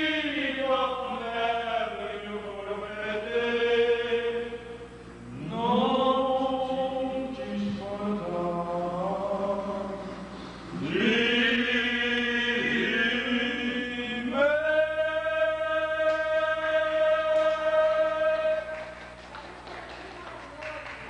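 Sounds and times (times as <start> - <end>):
men singing unaccompanied: 0.0 - 19.0.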